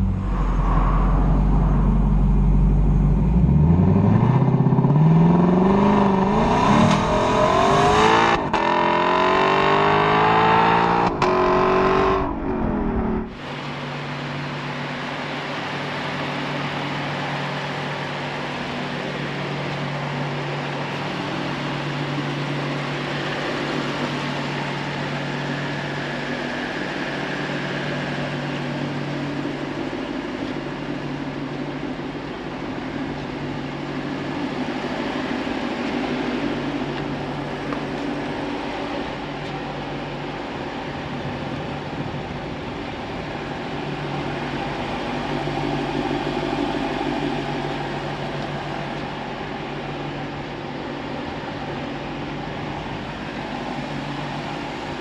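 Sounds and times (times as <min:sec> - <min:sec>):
car engine idling: 0:00.0 - 0:07.3, 0:12.2 - 0:55.0.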